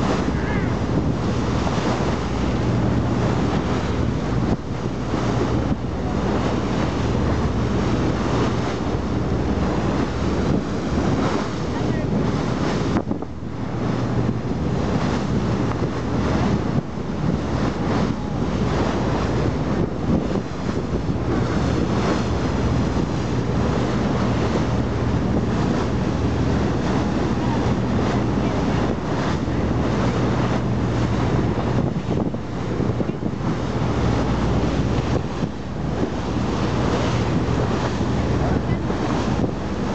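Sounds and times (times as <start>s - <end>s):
boat engine drone: 0.0s - 39.9s
wind buffeting microphone: 0.0s - 39.9s.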